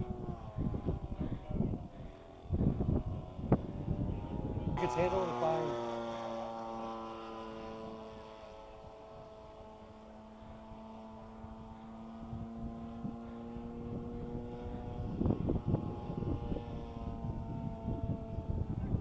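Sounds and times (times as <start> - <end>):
model plane propeller drone: 0.0 - 19.0
wind rumble on microphone: 0.0 - 19.0.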